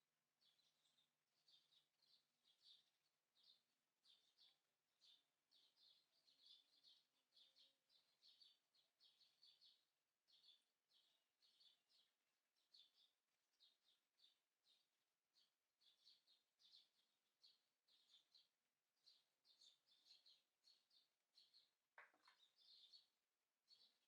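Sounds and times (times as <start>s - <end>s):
small bird chirping: 0.4s - 24.0s.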